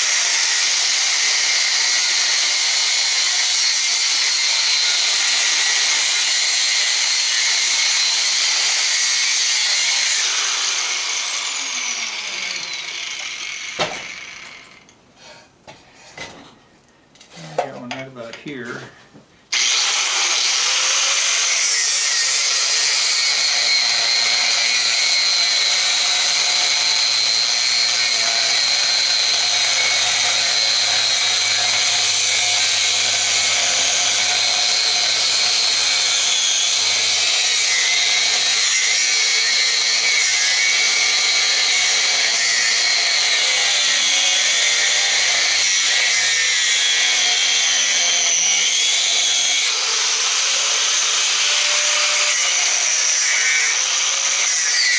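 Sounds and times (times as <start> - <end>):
power tool cutting metal: 0.0 - 14.9, 19.5 - 54.9.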